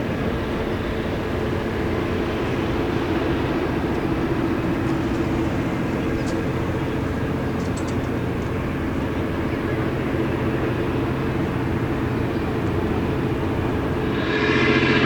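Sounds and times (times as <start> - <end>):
tugboat diesel engine running: 0.0 - 14.2.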